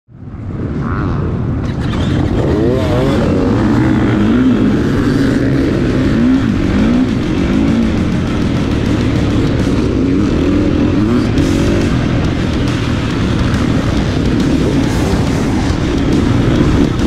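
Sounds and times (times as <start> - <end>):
other dirt bike engines: 0.1 - 17.0
dirt bike engine revving: 0.6 - 17.0.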